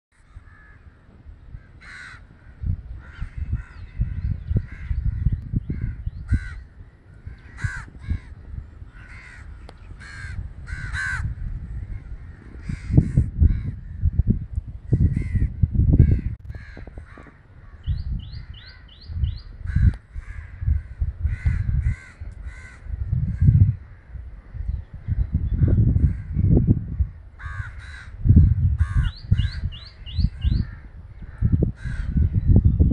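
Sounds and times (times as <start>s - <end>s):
wind rumble on microphone: 0.1s - 32.9s
crows cawing: 0.2s - 14.2s, 15.0s - 19.0s, 19.6s - 24.7s, 25.6s - 32.3s.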